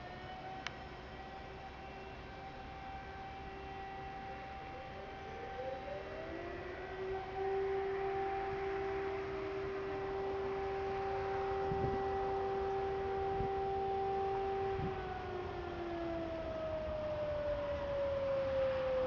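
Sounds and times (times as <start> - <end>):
electric motor siren winding down: 0.0 - 19.0.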